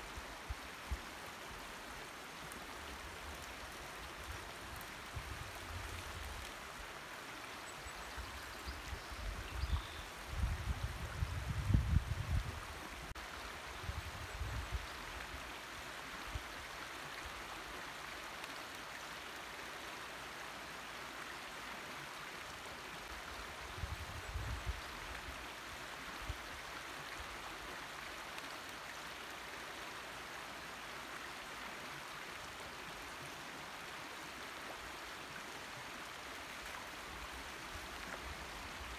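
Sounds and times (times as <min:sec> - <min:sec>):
creek running over rocks: 0:00.0 - 0:38.9.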